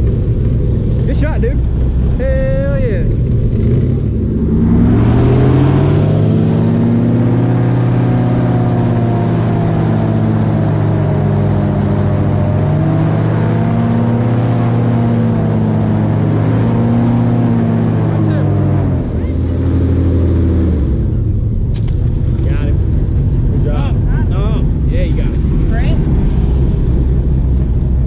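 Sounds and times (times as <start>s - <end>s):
airboat engine and propeller drone: 0.0s - 28.0s.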